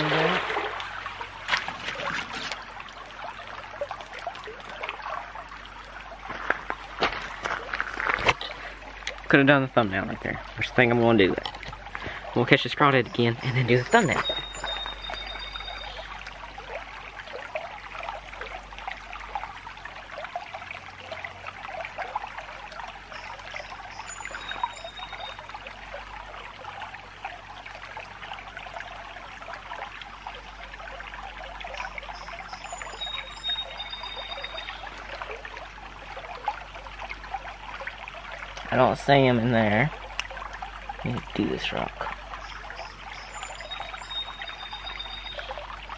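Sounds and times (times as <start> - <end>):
creek trickling: 0.0 - 45.9.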